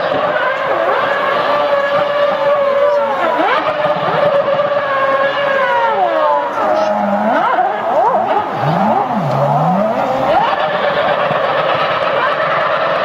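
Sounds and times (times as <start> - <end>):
distant racing car shifting gears: 0.0 - 13.0.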